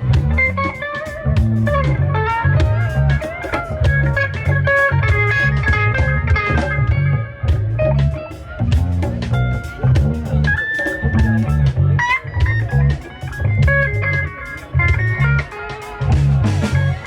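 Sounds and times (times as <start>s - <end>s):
bass guitar: 0.0s - 17.0s
drum kit: 0.0s - 17.0s
lead electric guitar: 0.0s - 17.0s.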